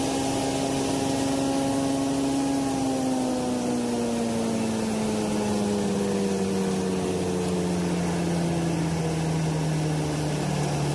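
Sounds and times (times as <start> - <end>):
crusher machine hum: 0.0 - 10.9.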